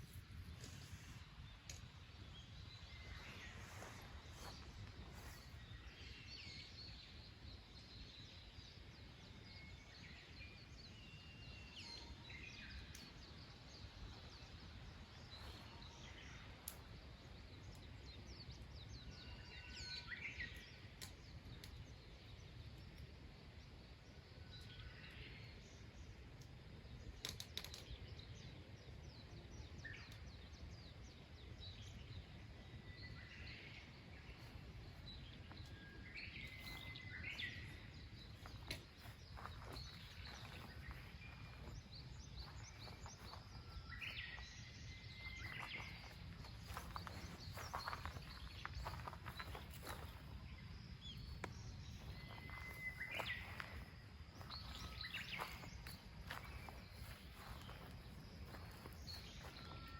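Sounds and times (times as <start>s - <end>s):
faint birds chirping: 0.0s - 59.9s.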